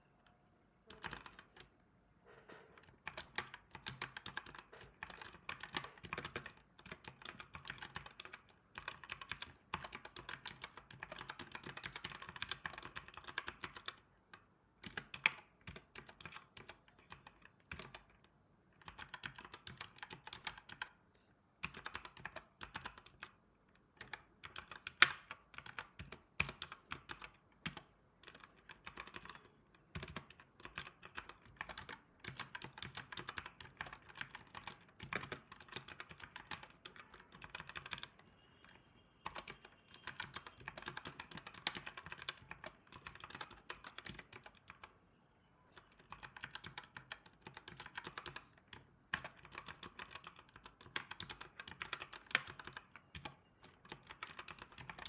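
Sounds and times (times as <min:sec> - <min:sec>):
typing on computer keyboard: 0:00.8 - 0:01.7, 0:02.5 - 0:21.0, 0:21.6 - 0:45.0, 0:45.8 - 0:55.0.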